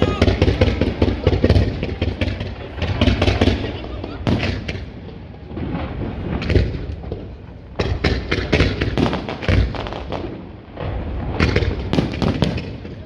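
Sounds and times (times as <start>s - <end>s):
deep fireworks booms: 0.0s - 13.0s
fireworks bangs and crackles: 0.0s - 13.0s.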